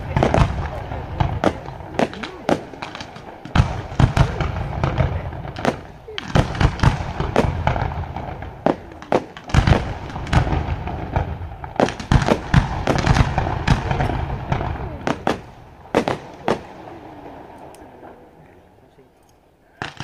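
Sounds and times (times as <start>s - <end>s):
fireworks bangs and cracks: 0.0s - 18.3s, 19.8s - 20.0s.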